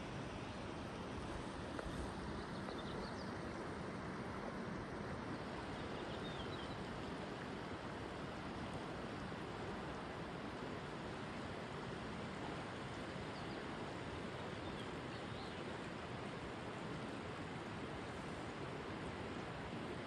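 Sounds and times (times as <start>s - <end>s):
river water rushing over boulders: 3.6s - 20.0s.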